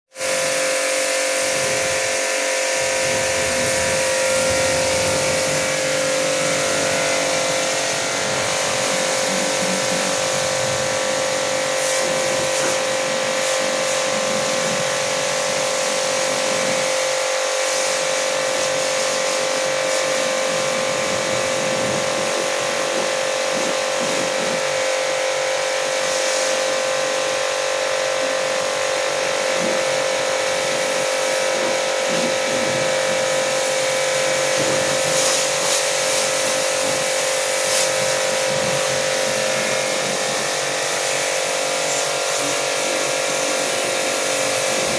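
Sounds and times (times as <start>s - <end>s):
pressure washer motor whine: 0.0s - 44.9s.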